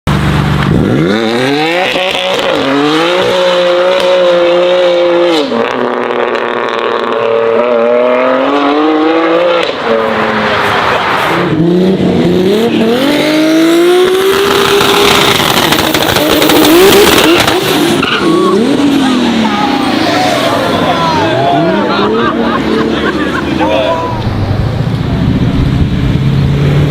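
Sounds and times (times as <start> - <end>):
car engine accelerating hard: 0.1 - 26.9.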